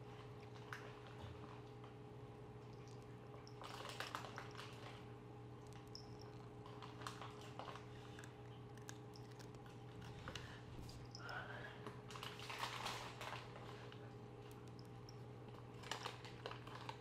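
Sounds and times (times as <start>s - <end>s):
cats crunching dry kibble: 0.0s - 17.0s
steady low hum: 0.0s - 17.0s.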